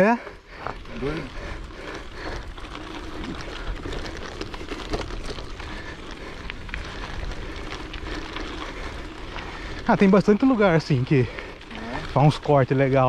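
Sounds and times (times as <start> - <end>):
bicycle tyres rolling on dirt: 0.0 - 13.0
grit crackling under wheels: 0.0 - 13.0.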